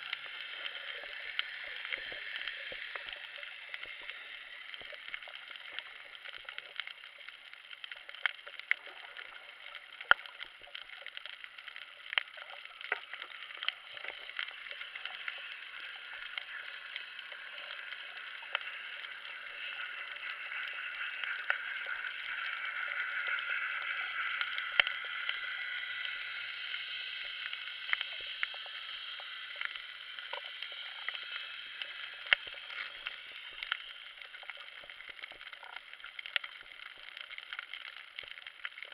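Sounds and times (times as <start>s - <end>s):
muffled underwater hiss: 0.0s - 38.9s
sharp clicks and crackles: 0.0s - 38.9s.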